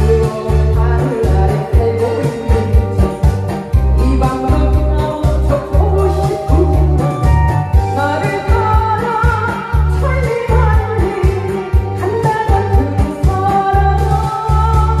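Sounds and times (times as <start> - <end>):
backing track with pulsing bass: 0.0 - 15.0
woman singing into microphone: 0.0 - 15.0.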